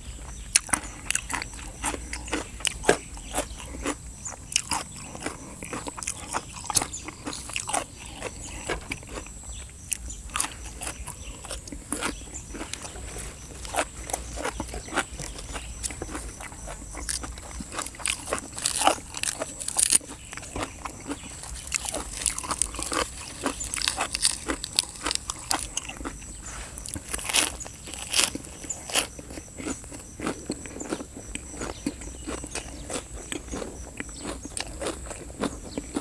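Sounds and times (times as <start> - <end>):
person chewing crunchy food: 0.0 - 36.0.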